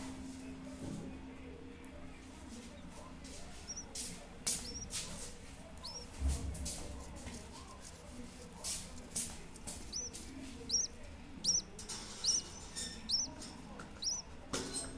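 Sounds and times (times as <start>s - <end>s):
small bird chirping: 2.8s - 14.9s.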